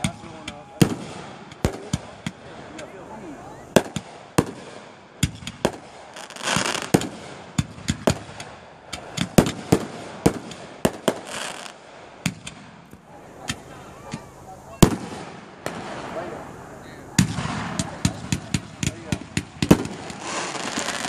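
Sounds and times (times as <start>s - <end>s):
firework bangs: 0.0s - 21.0s
hissing crackle: 0.0s - 21.0s.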